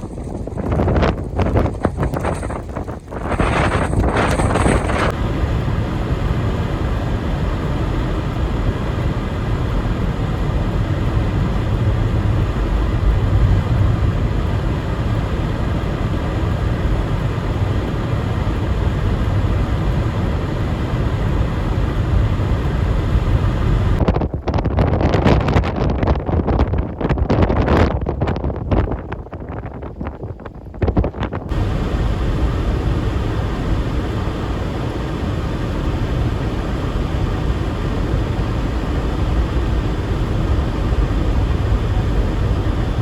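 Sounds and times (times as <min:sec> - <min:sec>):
faint hum: 0:00.0 - 0:24.0, 0:31.5 - 0:43.0
vehicle engine rumble: 0:00.0 - 0:24.8, 0:29.9 - 0:43.0.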